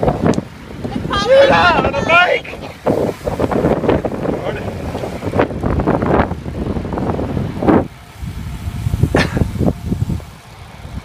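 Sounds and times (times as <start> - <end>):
road noise: 0.0 - 11.0
wind rumbling on microphone: 0.0 - 11.0.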